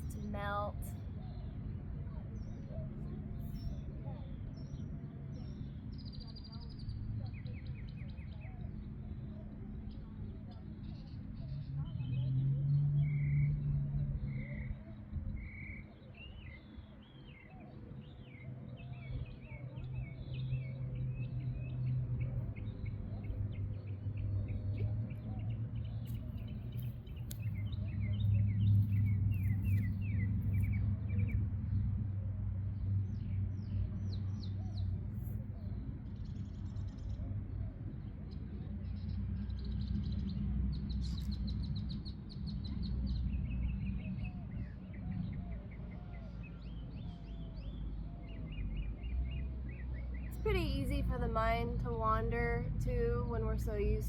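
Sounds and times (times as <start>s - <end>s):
songbirds chirping and trilling: 0.0s - 54.0s
steady low rumble: 0.0s - 54.0s.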